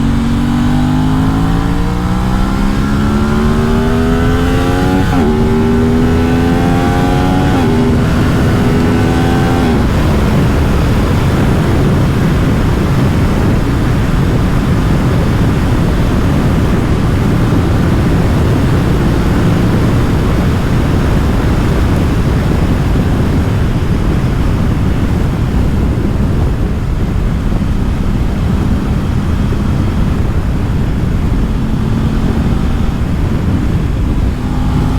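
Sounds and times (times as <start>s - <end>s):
motorcycle engine accelerating: 0.0s - 34.9s
wind rush: 0.0s - 34.9s.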